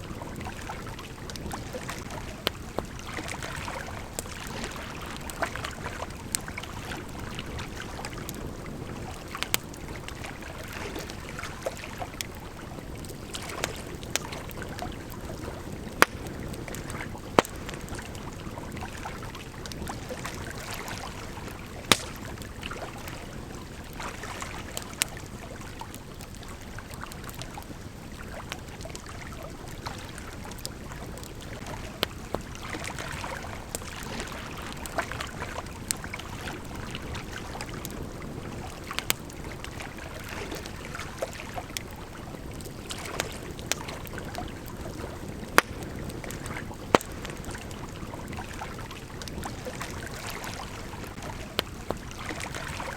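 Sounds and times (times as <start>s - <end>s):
campfire crackling and popping: 0.0s - 52.9s
river flowing: 0.0s - 52.9s.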